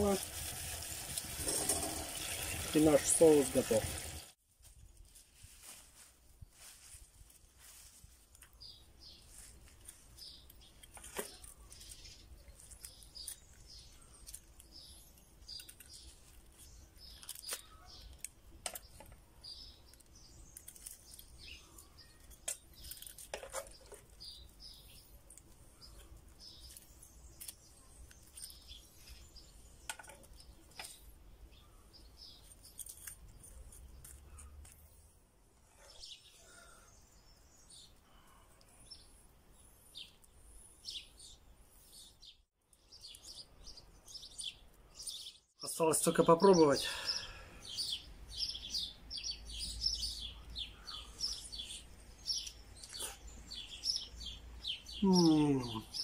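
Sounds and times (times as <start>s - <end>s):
small birds chirping: 1.4s - 56.0s.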